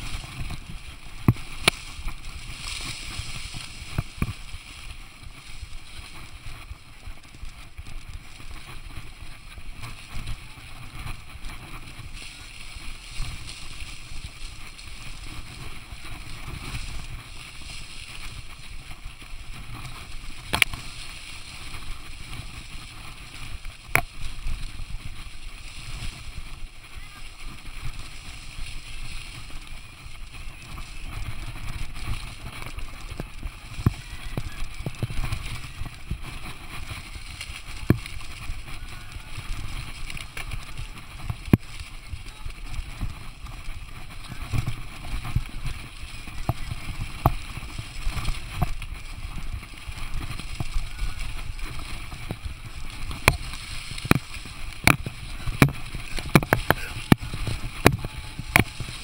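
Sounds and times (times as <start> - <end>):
bike rattling over bumps: 0.0 - 59.0
wind and trail rumble: 0.0 - 59.0.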